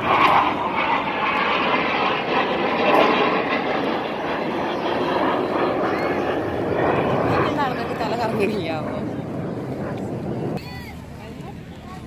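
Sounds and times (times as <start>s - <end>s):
jet engines flying past: 0.0s - 12.0s.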